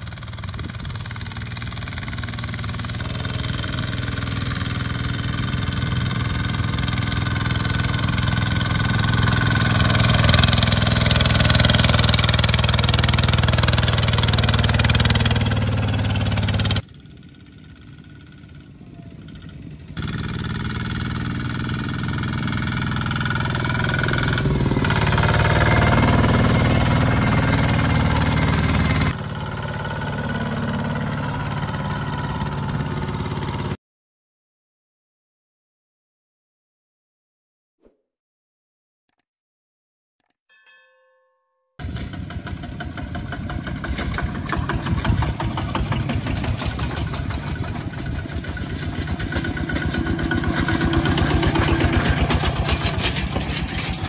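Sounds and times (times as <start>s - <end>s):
diesel tractor engine running: 0.0s - 33.8s, 41.8s - 54.0s.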